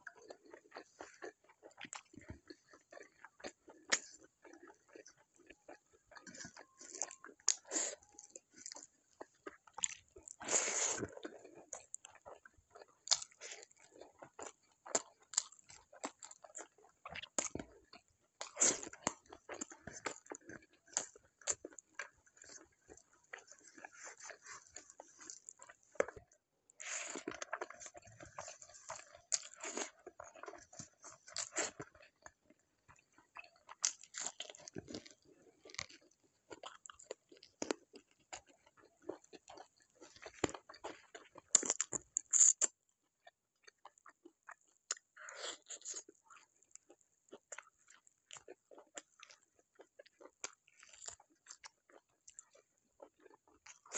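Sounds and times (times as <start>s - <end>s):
crunching and chewing food: 0.0s - 53.9s.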